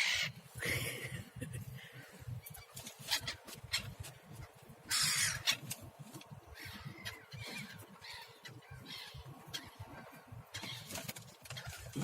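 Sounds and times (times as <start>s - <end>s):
seagulls calling: 0.0s - 0.4s, 1.8s - 12.0s.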